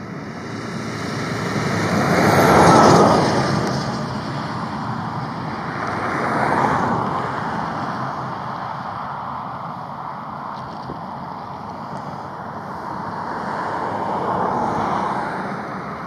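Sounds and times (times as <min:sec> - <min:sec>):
vehicles passing on a road: 0:00.0 - 0:16.0.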